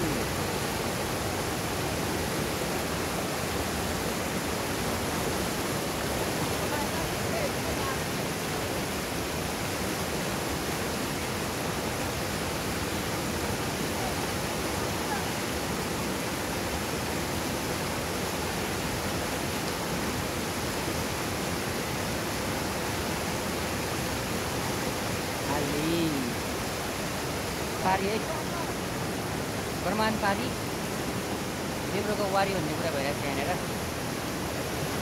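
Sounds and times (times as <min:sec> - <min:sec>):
river rapids roaring: 0:00.0 - 0:35.0.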